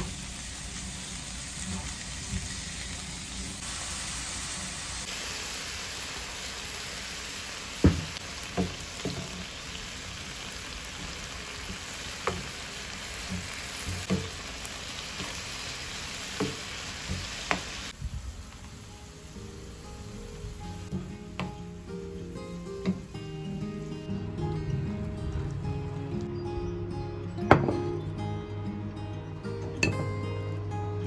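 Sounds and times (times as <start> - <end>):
food sizzling in a frying pan: 0.0 - 26.2.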